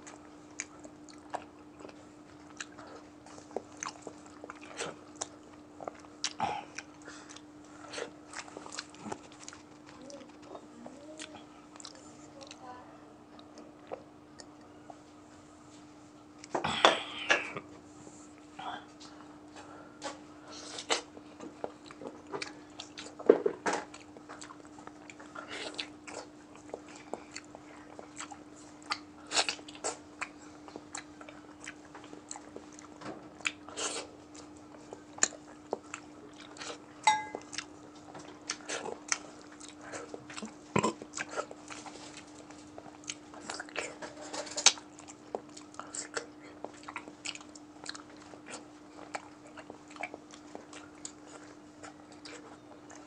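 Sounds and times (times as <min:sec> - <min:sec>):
person chewing food: 0:00.0 - 0:12.6, 0:13.4 - 0:15.2, 0:17.3 - 0:53.0.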